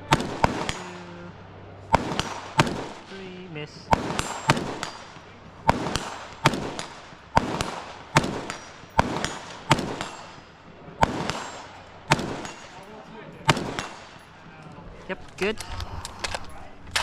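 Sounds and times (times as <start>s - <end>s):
gunshots with echo: 0.0s - 14.5s
faint gunshots: 0.0s - 14.6s.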